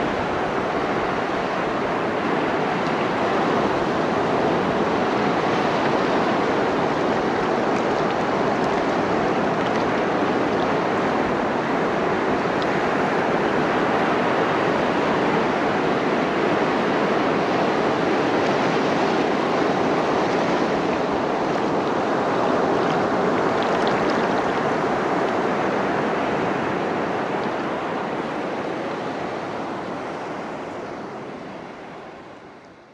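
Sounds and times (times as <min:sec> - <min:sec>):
surf washing over rocks: 0:00.0 - 0:32.9.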